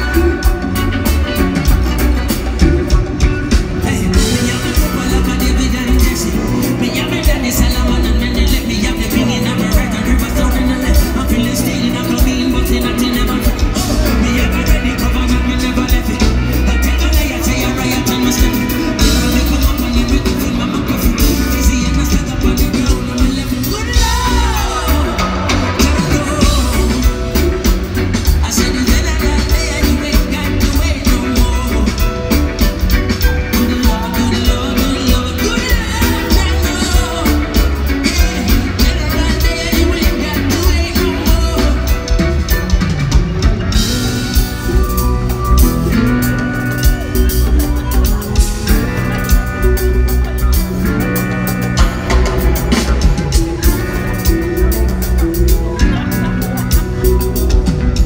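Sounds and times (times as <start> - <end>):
person singing: 0.0 - 58.0
reggae band playing: 0.0 - 58.0.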